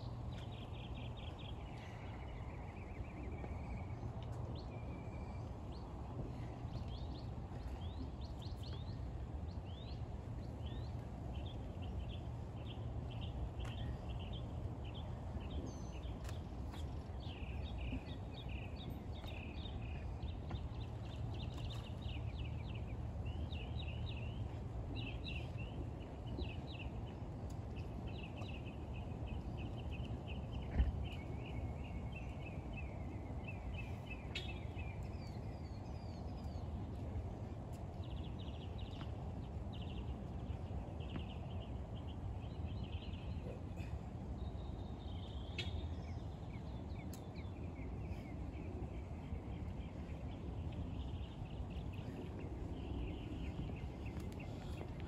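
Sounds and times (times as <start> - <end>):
low outdoor rumble: 0.0 - 55.0
small birds chirping: 0.3 - 55.0.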